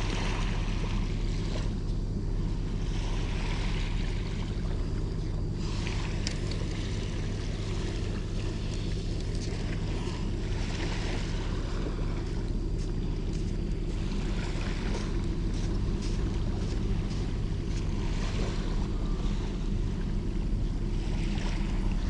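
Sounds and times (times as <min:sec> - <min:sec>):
light surf washing: 0:00.0 - 0:22.0
wind rumble on microphone: 0:00.0 - 0:22.0.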